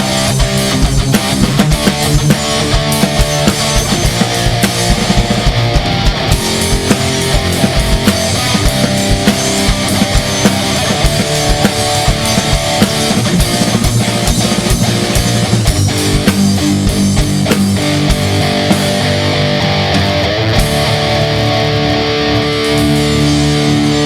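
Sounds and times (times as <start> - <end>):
drum kit beat: 0.0 - 24.0
electric guitar: 0.0 - 24.0.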